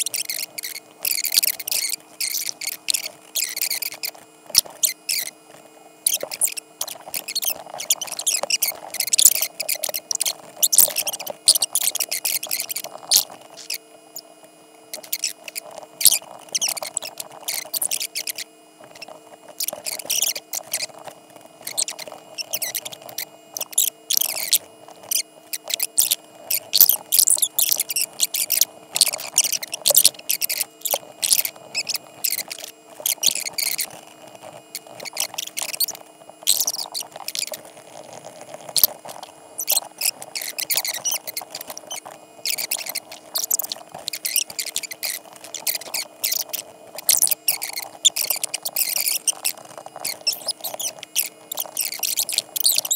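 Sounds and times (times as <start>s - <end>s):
faint steady hum: 0.0s - 52.9s
stylus scratching on tablet: 0.0s - 52.9s.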